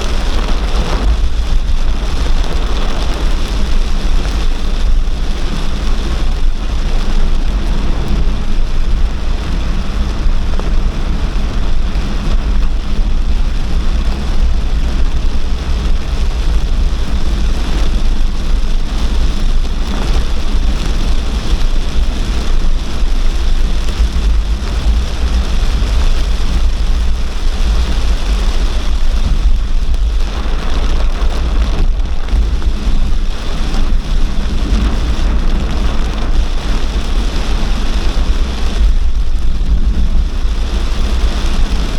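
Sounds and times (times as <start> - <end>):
deep rumble: 0.0 - 41.9
torrential rain pouring: 0.0 - 41.9.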